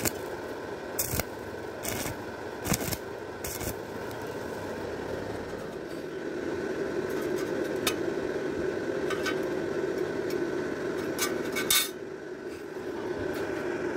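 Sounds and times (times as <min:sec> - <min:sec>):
machine hum with high whine: 0:00.0 - 0:13.9.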